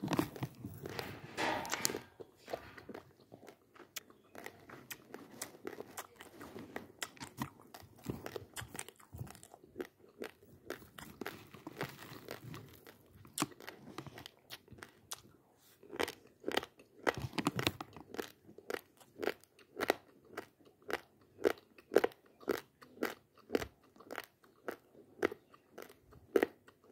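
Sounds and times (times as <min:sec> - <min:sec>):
crunching dry rice: 0:00.0 - 0:26.7.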